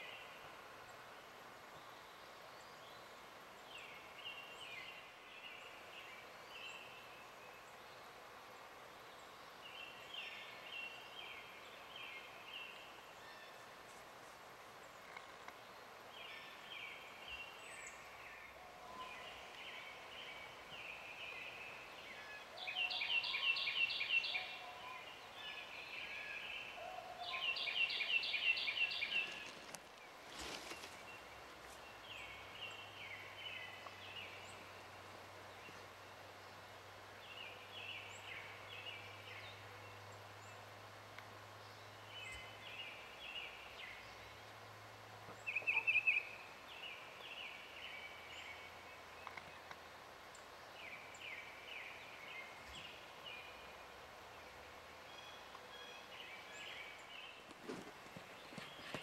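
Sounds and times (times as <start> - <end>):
quiet woodland ambience: 0.0 - 59.0
songbird singing: 0.0 - 59.0.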